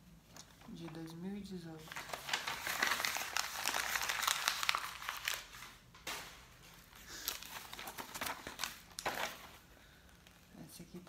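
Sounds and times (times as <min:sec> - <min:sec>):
paper crinkling and rustling: 0:00.3 - 0:10.5.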